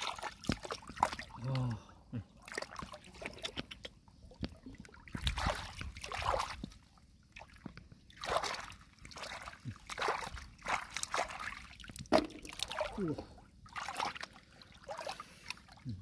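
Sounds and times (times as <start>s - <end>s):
muddy water splashing: 0.0s - 16.0s.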